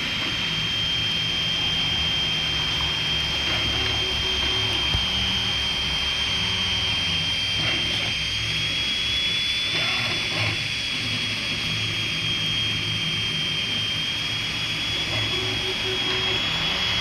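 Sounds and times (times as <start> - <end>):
cooling fans whining: 0.0 - 17.0
stepper motors humming: 0.0 - 17.0.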